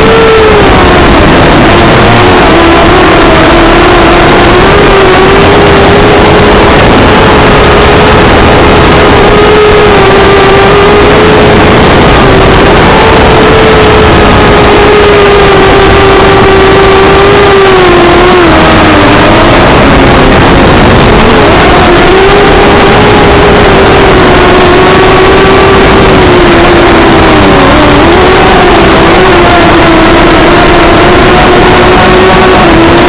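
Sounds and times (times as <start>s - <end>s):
drone motors and propellers buzzing: 0.0s - 33.0s.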